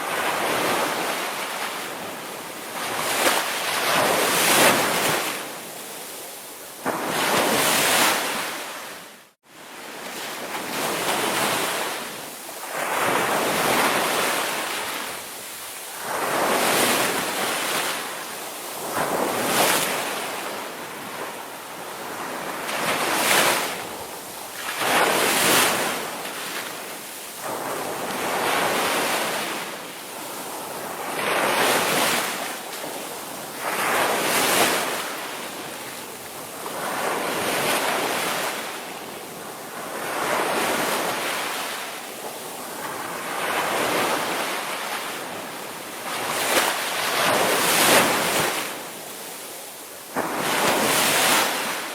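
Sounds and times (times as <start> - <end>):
waves breaking and washing in: 0.0 - 51.9.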